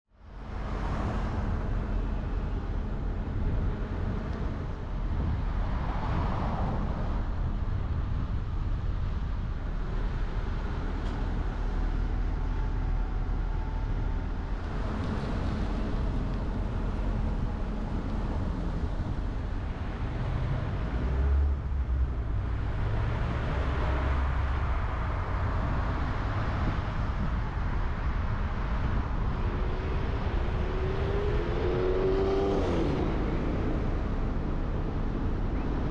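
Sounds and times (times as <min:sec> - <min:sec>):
road and traffic noise: 0:00.1 - 0:35.9
vehicles passing: 0:00.2 - 0:35.9.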